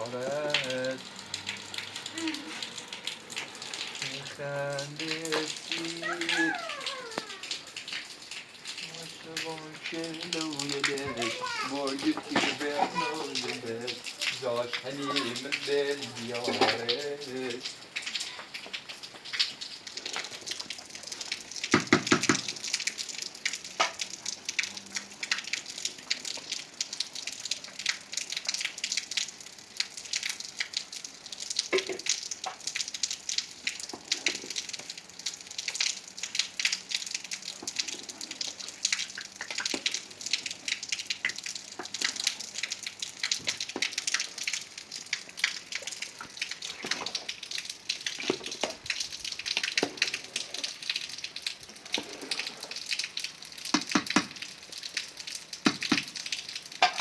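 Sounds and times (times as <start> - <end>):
water splashing and dripping: 0.0 - 57.0.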